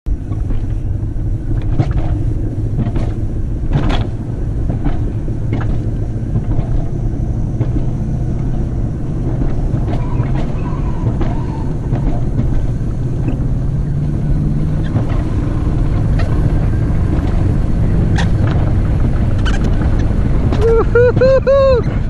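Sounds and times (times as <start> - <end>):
coaster cart rumbling on track: 0.1 - 22.0.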